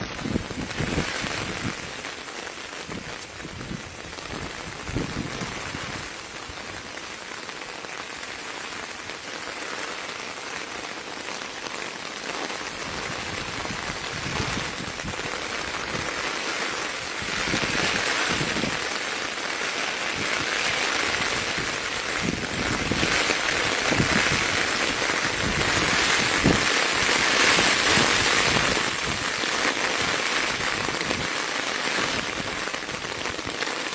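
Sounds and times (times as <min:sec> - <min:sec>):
close raindrops landing: 0:00.0 - 0:33.9
steady rain falling: 0:00.0 - 0:33.9.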